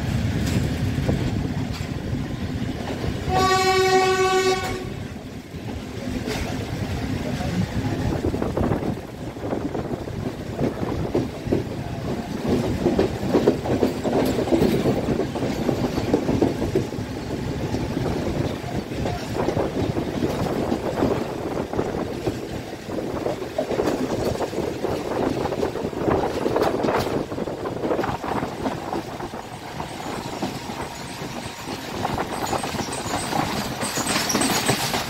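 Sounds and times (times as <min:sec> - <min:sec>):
train rolling rumble: 0:00.0 - 0:35.0
wheels clickety-clack: 0:00.0 - 0:35.0.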